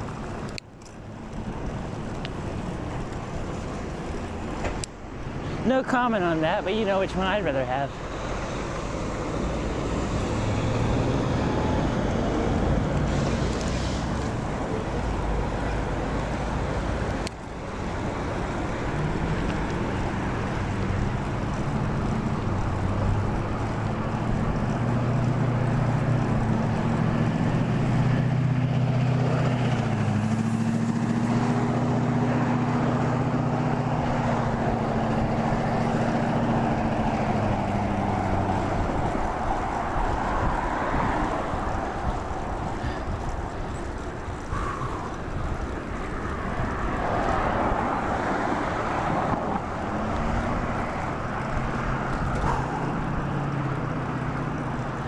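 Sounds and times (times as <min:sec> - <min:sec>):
road noise: 0:00.0 - 0:55.0
wind noise on microphone: 0:08.0 - 0:53.7.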